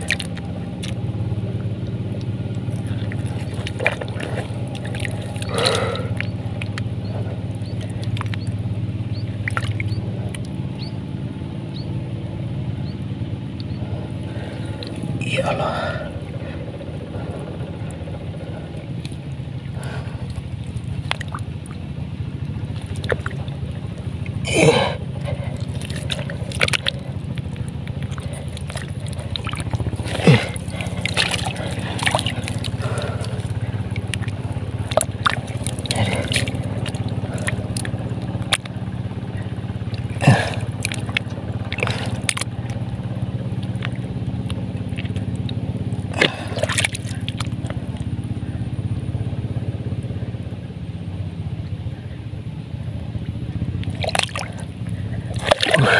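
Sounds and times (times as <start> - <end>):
wet slurps: 0.0 - 8.5, 9.1 - 10.6, 13.6 - 21.9, 22.5 - 48.5, 53.8 - 55.9
engine hum: 0.0 - 55.9
muddy water sloshing: 0.0 - 55.9.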